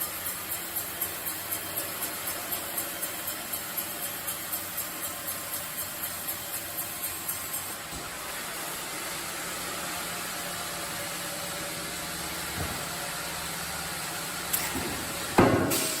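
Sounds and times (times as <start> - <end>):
sawmill machinery running: 0.0 - 16.0.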